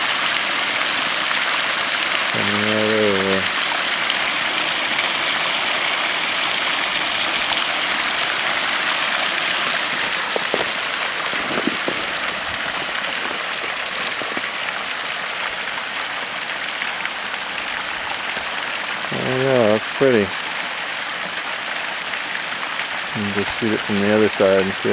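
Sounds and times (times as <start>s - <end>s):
water splashing down rocks: 0.0s - 24.9s.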